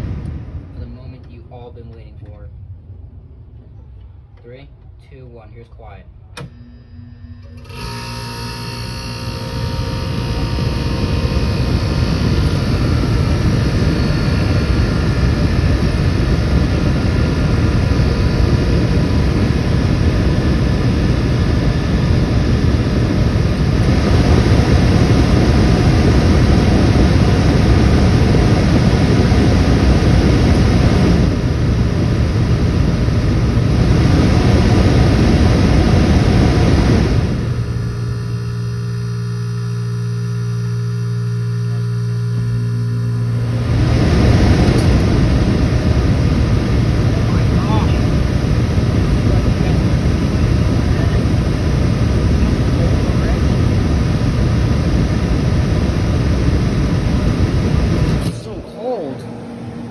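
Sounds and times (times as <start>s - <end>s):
compressor humming: 0.0s - 3.1s, 6.2s - 59.9s
air conditioner fan rushing: 0.0s - 59.9s.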